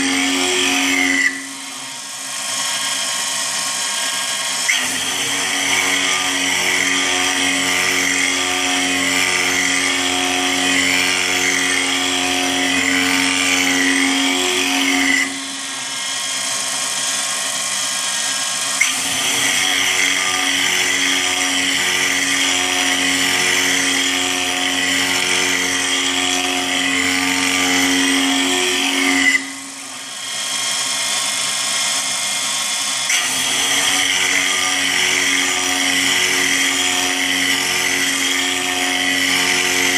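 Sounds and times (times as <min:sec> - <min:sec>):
metal cutting screech: 0:00.0 - 0:03.2, 0:03.9 - 0:39.9
milling machine spindle whine: 0:00.0 - 0:39.9.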